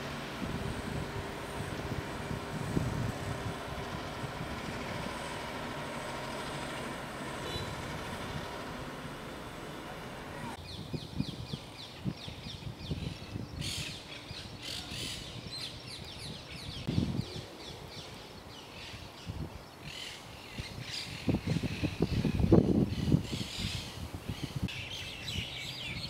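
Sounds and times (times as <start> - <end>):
small birds chirping: 0.7 - 26.0.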